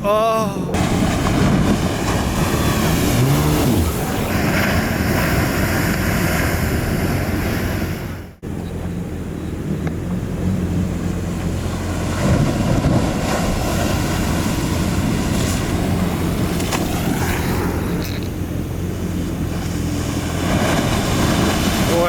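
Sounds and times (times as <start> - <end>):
ocean waves breaking: 0.0 - 8.5, 10.0 - 22.0
low engine hum: 0.0 - 22.0
wind buffeting microphone: 0.7 - 22.0.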